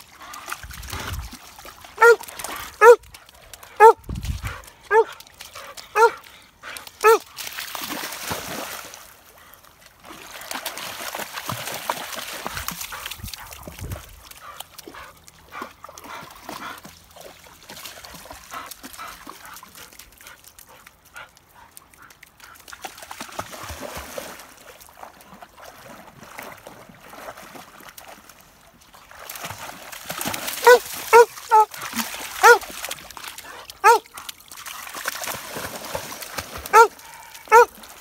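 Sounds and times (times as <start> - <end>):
dogs splashing in water: 0.0 - 38.0.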